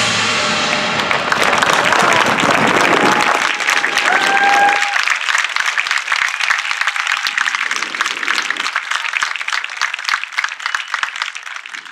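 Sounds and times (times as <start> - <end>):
crowd applauding: 0.6 - 11.9.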